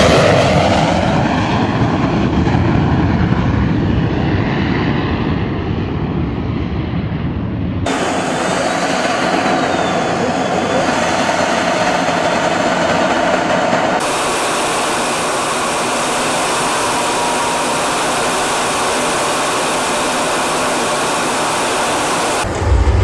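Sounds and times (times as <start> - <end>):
jet engine rushing in cockpit: 0.0 - 23.0.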